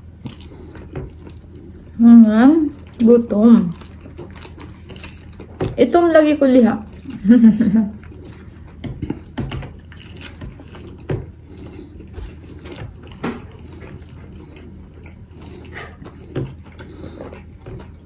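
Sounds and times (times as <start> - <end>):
chewing and mouth smacks: 0.0 - 2.0, 2.7 - 5.8, 6.6 - 18.0
low steady hum: 0.0 - 18.0.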